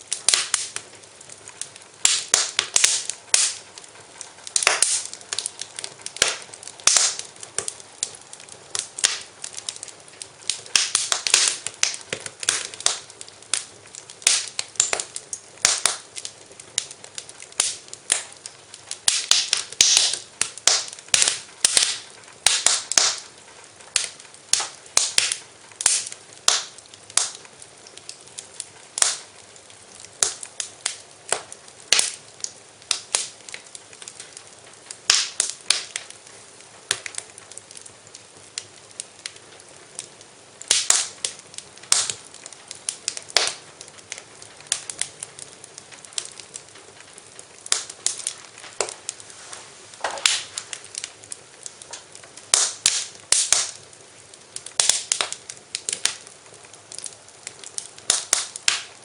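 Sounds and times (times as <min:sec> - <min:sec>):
faint hiss: 0:00.0 - 0:59.0
wood fire crackling: 0:00.0 - 0:59.0.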